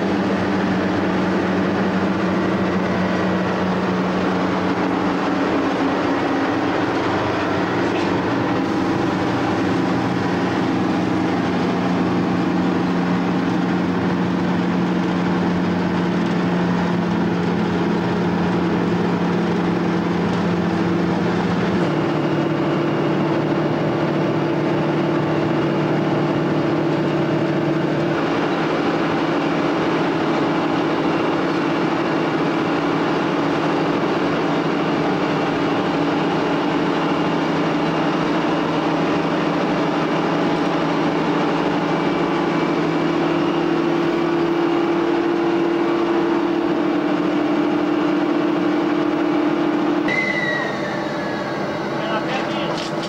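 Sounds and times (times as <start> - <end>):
locomotive engine droning: 0.0 - 53.0.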